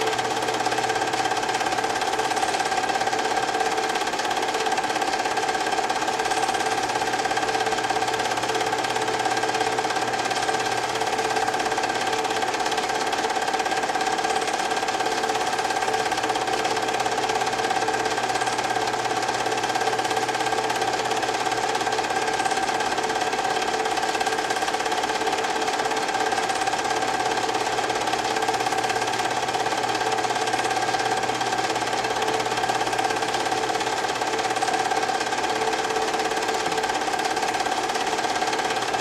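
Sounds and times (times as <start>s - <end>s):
film projector whirring: 0.0s - 39.0s.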